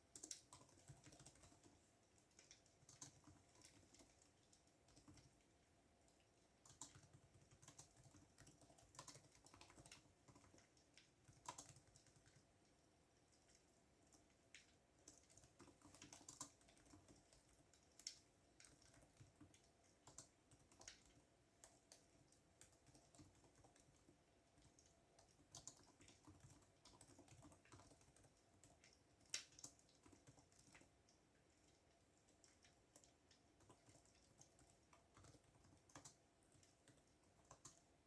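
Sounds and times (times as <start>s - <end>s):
computer keyboard typing: 0.0s - 38.0s.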